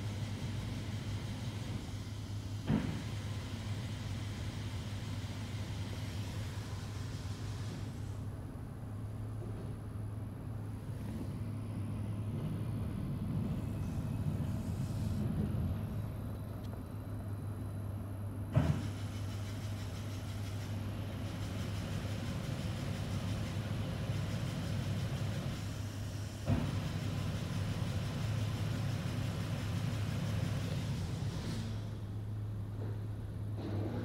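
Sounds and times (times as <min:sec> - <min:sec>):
constant low hum: 0:00.0 - 0:34.0.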